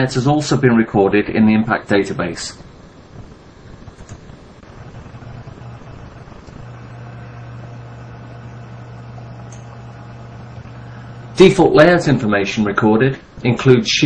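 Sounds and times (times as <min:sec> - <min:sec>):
faint background hiss: 0:00.0 - 0:14.0
steady low hum: 0:00.0 - 0:14.0.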